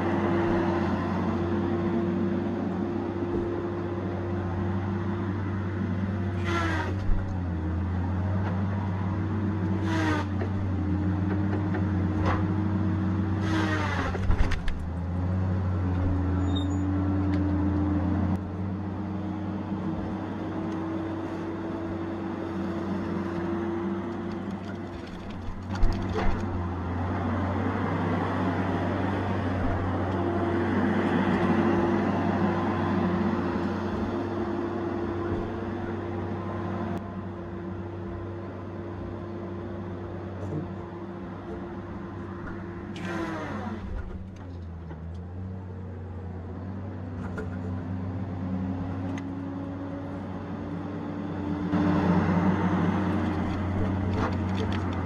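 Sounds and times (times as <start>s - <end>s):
heavy machine engine hum: 0.0s - 55.0s.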